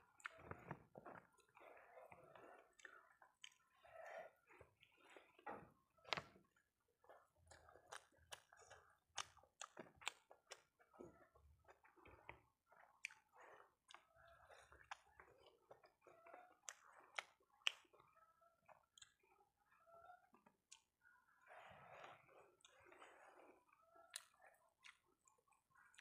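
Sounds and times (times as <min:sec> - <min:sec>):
chewing omelette: 0:00.0 - 0:26.0.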